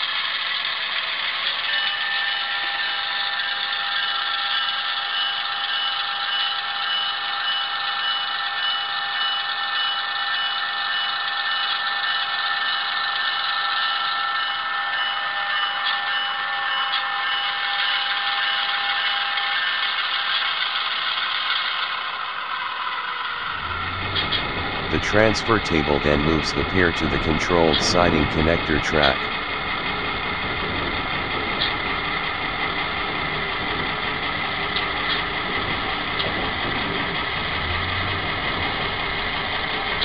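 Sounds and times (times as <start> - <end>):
model locomotive engine idling: 0.0 - 40.0.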